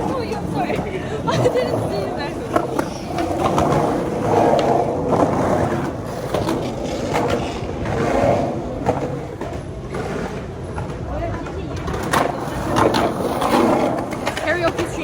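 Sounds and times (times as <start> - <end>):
skateboard clacks: 0.0 - 15.0
skateboard wheels rolling on pavement: 0.0 - 15.0.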